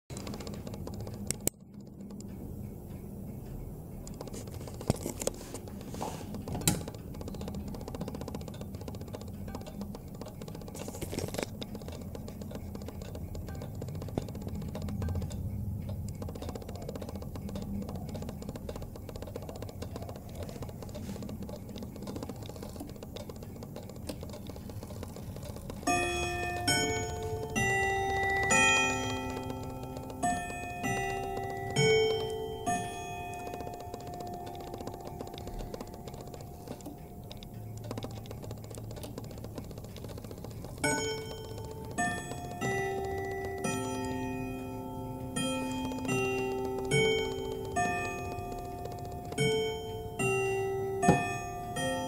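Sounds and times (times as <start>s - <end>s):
wall clock ticking: 0.0s - 52.0s.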